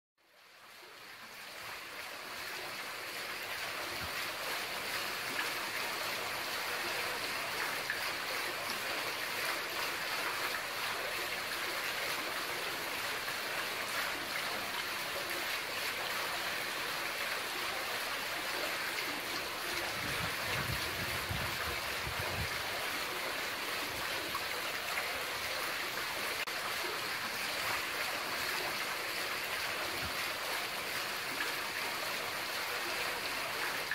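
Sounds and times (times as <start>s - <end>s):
water pouring into a basin: 0.4s - 33.9s.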